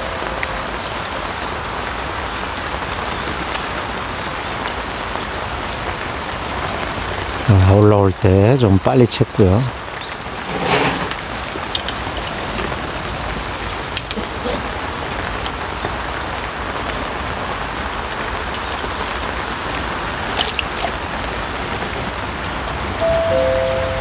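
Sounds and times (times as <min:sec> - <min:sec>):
rain falling on pond water: 0:00.0 - 0:24.0.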